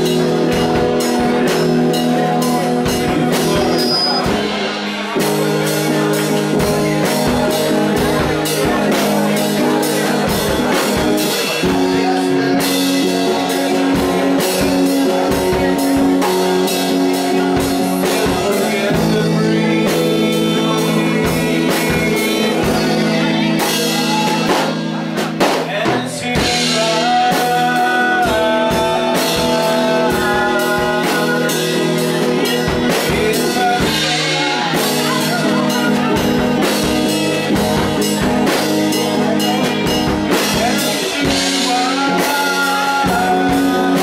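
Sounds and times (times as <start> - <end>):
drum kit beat: 0.0 - 44.0
electric guitar: 0.0 - 44.0
person singing: 0.0 - 44.0.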